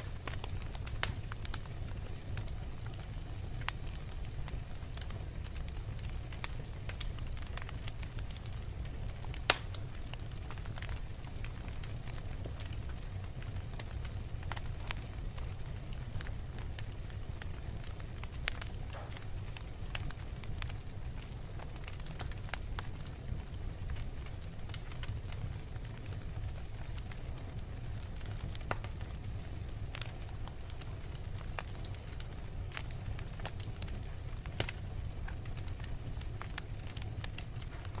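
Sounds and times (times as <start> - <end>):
fire crackles and pops: 0.0 - 38.0
low rumble of flames: 0.0 - 38.0.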